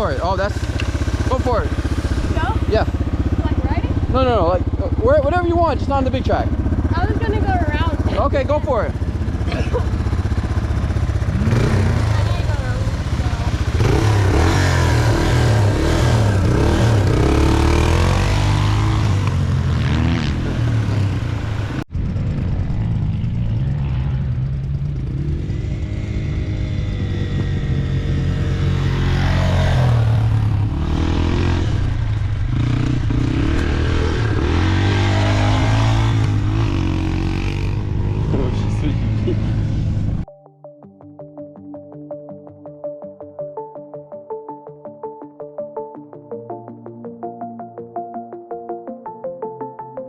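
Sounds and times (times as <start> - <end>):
dirt bike engine revving: 0.0 - 40.2.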